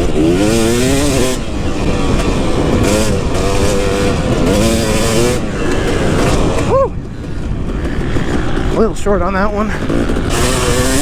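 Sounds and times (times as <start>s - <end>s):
motocross engine revving: 0.0s - 11.0s.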